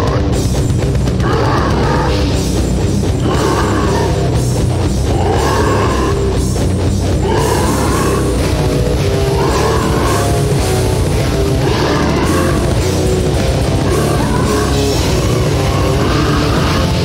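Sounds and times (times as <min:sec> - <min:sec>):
heavy metal music: 0:00.0 - 0:17.0.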